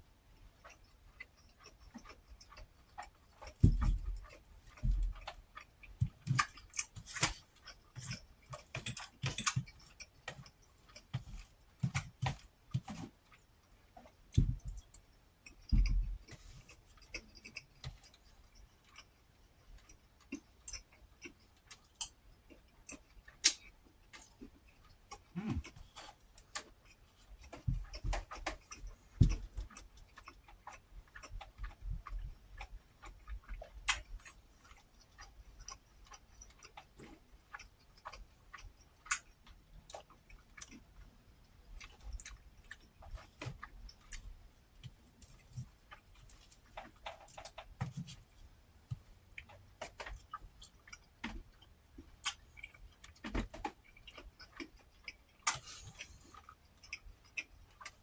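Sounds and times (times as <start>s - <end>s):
person chewing: 0.6s - 13.4s, 14.1s - 19.2s, 19.8s - 41.0s, 48.8s - 58.0s.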